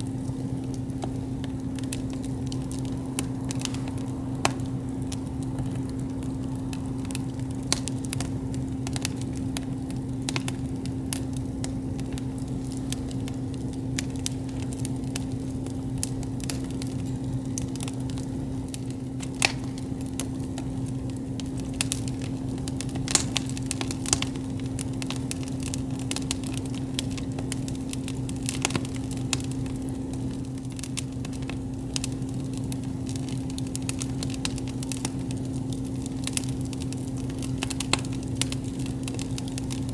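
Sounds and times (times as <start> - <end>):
campfire crackling and popping: 0.0 - 39.9
steady low hum: 0.0 - 39.9.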